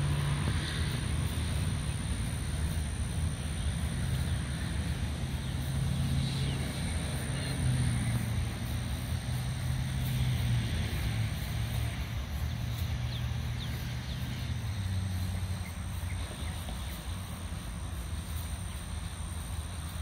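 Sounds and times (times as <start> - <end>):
low rumble with faint hum: 0.0 - 20.0.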